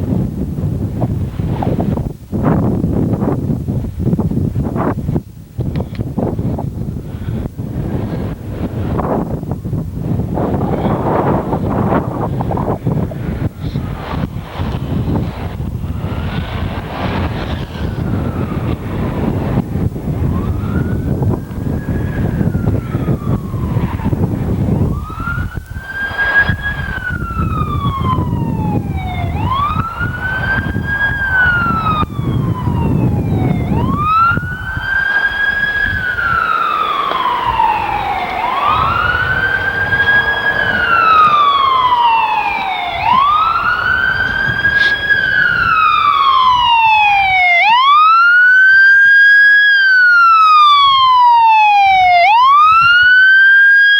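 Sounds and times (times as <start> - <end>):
low rumbling noise: 0.0 - 53.2
emergency vehicle siren wailing: 6.2 - 53.9.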